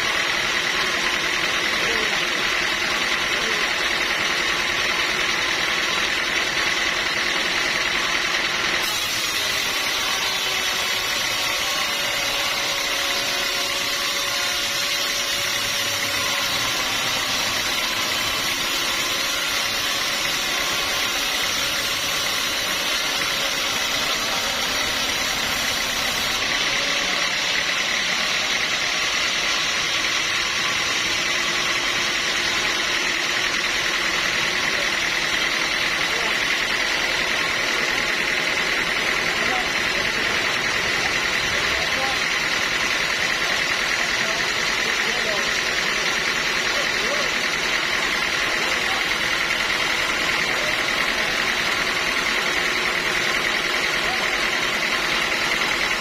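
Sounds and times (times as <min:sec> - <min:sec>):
high whine of saw: 0:00.0 - 0:56.0
sawmill machinery running: 0:00.0 - 0:56.0.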